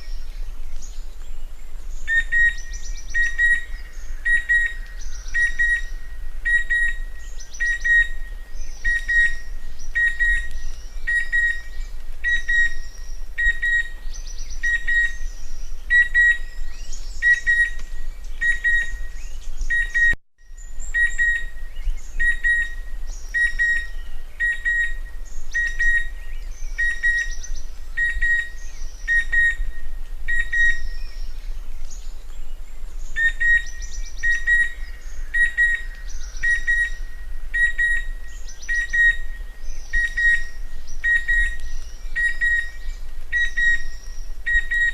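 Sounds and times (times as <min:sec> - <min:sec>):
birds chirping: 0:00.0 - 0:44.9
cuckoo whistled calls: 0:00.0 - 0:44.9.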